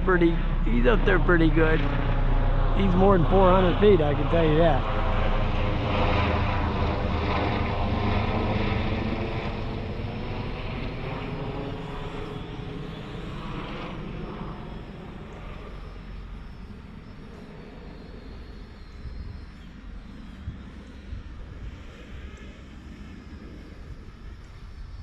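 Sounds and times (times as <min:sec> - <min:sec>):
helicopter droning overhead: 0:00.0 - 0:25.0.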